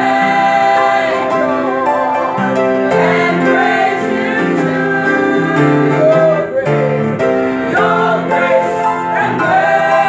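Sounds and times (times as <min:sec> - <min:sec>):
choir singing gospel: 0:00.0 - 0:10.0.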